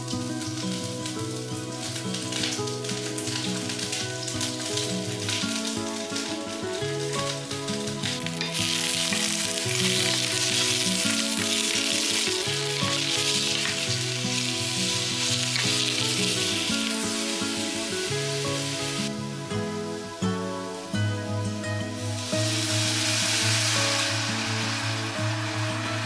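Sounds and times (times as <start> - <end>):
background music: 0.0 - 26.0
eggplant sizzling in a pot: 0.0 - 26.0.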